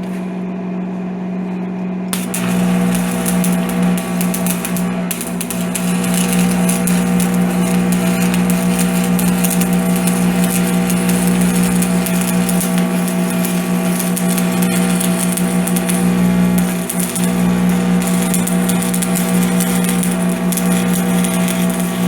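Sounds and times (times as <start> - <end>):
steady electrical hum: 1.4 - 22.0
welding arc crackling: 2.1 - 22.0.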